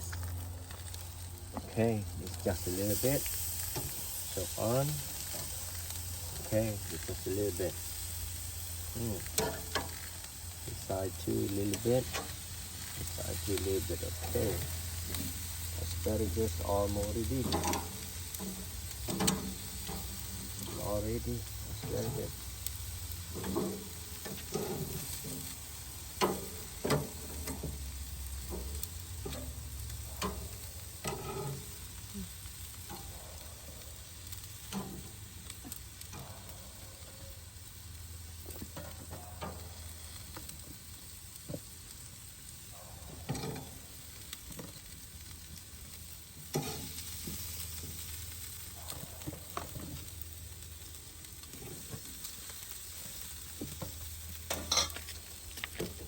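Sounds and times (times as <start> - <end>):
food sizzling on a grill: 0.0 - 56.0.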